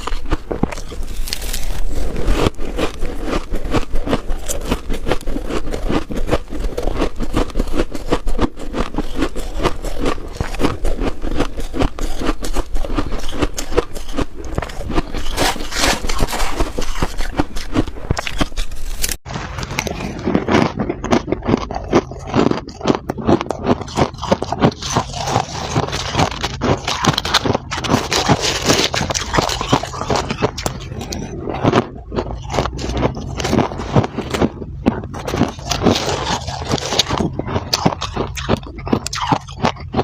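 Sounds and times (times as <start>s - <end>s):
freezer frost crunching and scraping: 0.0s - 40.0s.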